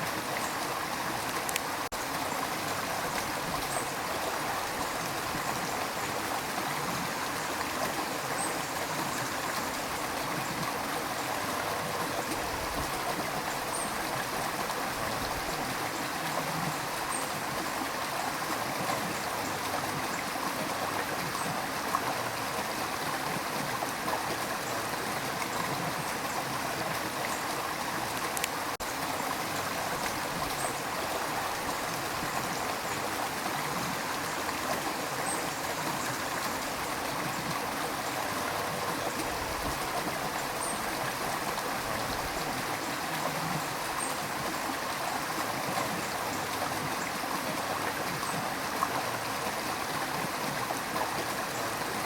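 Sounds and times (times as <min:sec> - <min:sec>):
river water rushing over rocks: 0:00.0 - 0:52.0.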